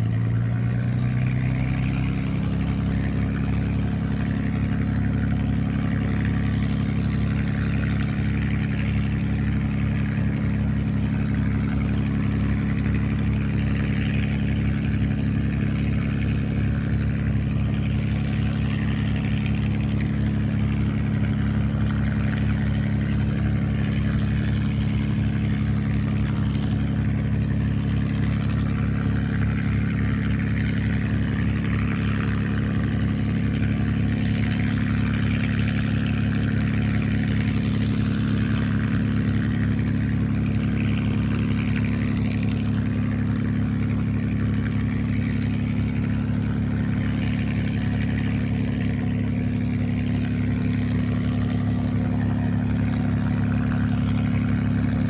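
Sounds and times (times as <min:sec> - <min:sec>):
aircraft engine idling: 0:00.0 - 0:55.0.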